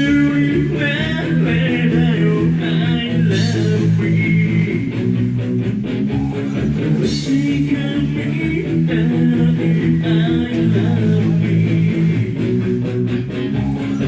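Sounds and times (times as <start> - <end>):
bass guitar: 0.0 - 14.0
cymbal beat: 0.0 - 14.0
drums: 0.0 - 14.0
electric guitar: 0.0 - 14.0.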